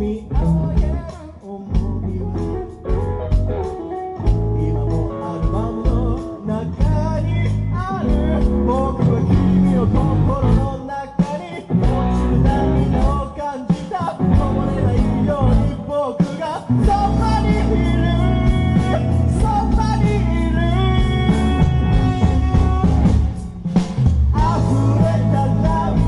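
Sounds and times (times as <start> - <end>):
person singing: 0.0 - 23.5, 24.3 - 26.0
live rock band playing: 0.0 - 26.0.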